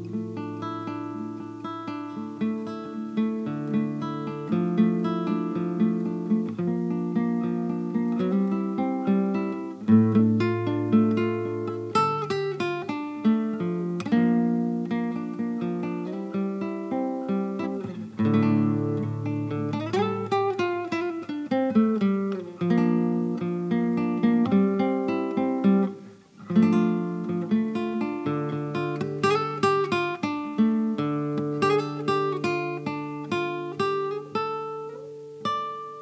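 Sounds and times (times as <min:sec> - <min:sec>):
acoustic guitar music: 0:00.0 - 0:36.0.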